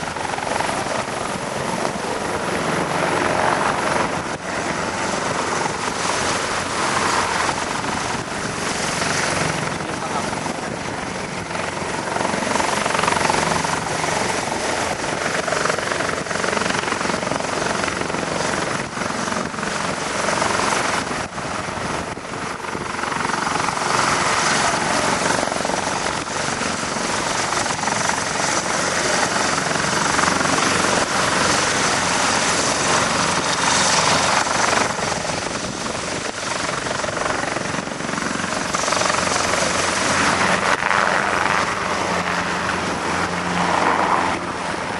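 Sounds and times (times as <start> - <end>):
helicopter flying: 0.0 - 44.9.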